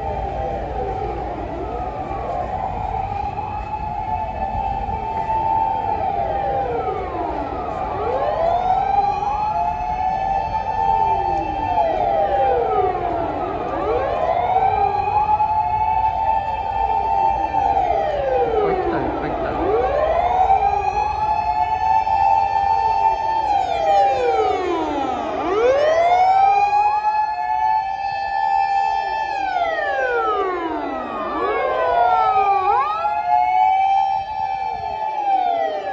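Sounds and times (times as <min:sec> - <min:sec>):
truck engines rumbling: 0:00.0 - 0:35.2
fire engine sirens wailing: 0:00.0 - 0:35.9.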